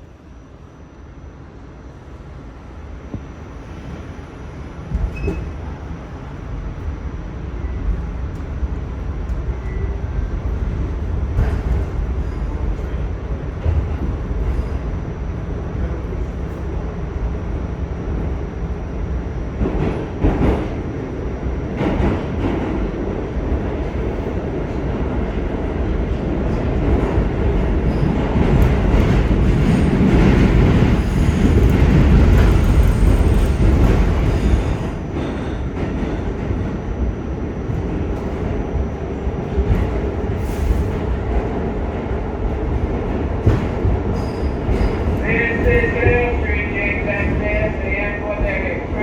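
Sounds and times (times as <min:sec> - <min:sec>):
subway train wheel-and-rail noise: 0:00.0 - 0:49.0.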